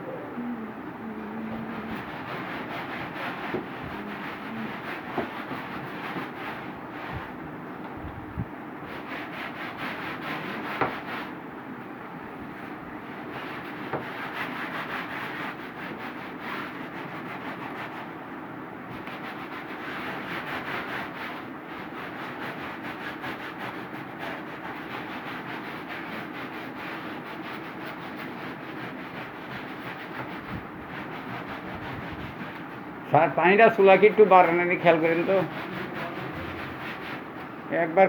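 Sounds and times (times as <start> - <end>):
rubbing on upholstery: 1.1 - 7.4, 8.9 - 11.4, 12.5 - 18.2, 18.9 - 38.0.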